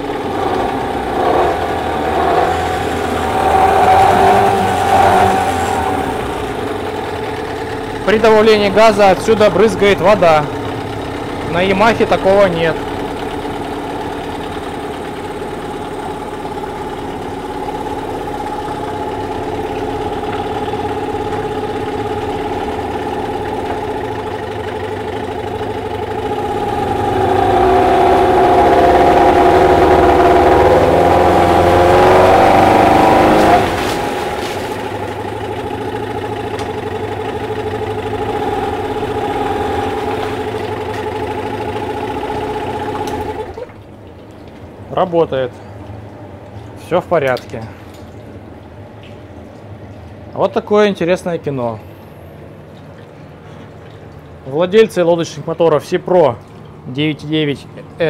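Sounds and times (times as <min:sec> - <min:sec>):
outboard motor running: 0:00.0 - 0:51.2, 0:51.8 - 0:58.0.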